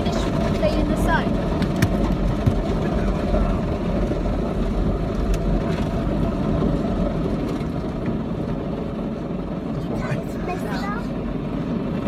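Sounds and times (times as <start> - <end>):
car wash machinery: 0.0 - 12.0
water spraying on car: 0.0 - 12.0.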